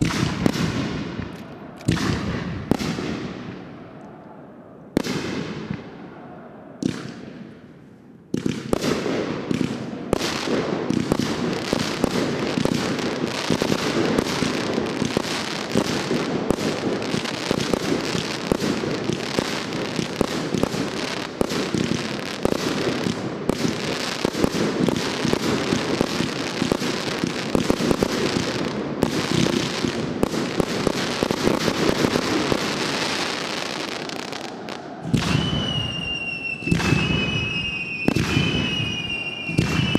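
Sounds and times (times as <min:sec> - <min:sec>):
fireworks bursting and crackling: 0:00.0 - 0:04.0, 0:04.9 - 0:39.9.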